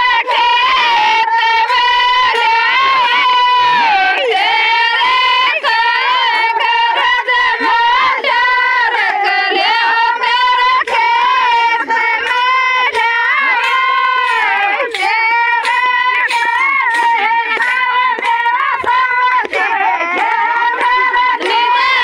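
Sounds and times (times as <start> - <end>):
high-pitched folk singing: 0.0 - 22.0.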